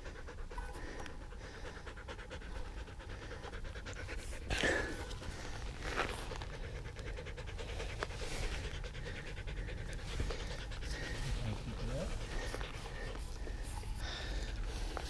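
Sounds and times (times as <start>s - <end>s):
dog panting rapidly: 0.0s - 15.0s.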